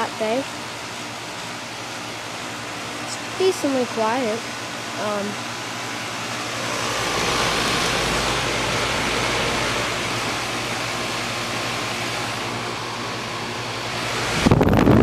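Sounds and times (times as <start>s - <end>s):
compressor humming: 0.0s - 15.0s
fan rushing air: 0.0s - 15.0s.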